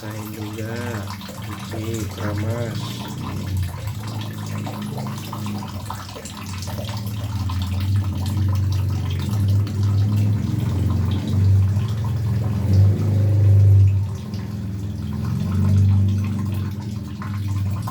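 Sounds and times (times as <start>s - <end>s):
tap water running and splashing: 0.0s - 17.9s.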